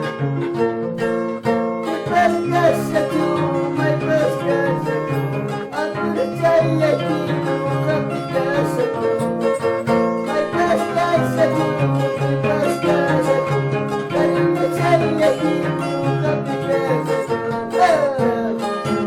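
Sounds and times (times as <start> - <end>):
harp plucked melody: 0.0 - 19.0
higher wavering melody: 0.0 - 19.0.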